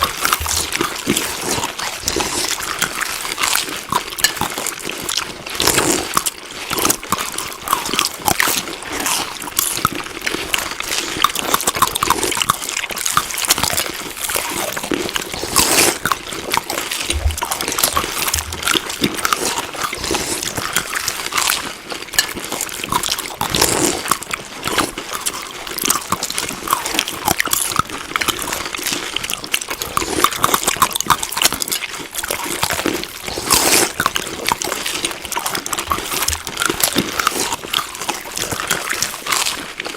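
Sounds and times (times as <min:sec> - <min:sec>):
close chewing mouth sounds: 0:00.0 - 0:39.9.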